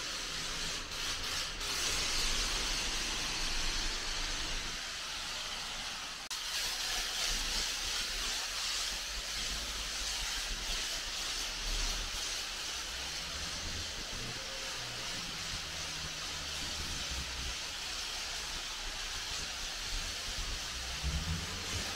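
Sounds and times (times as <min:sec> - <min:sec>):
pressure washer spray hissing: 0:00.0 - 0:21.9.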